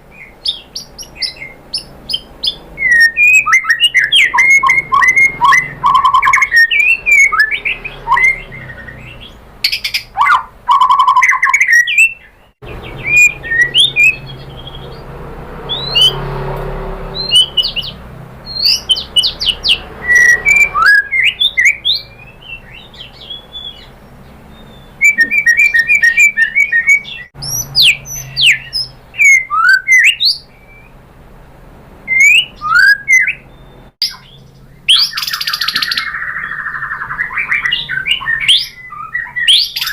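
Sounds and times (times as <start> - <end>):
songbird singing whistles and chirps: 0.0 - 16.5, 17.1 - 31.0, 32.1 - 39.9.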